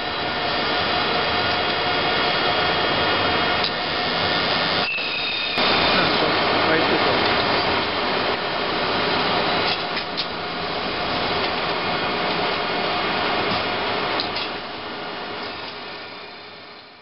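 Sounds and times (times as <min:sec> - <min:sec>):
machine noise: 0:00.0 - 0:17.0.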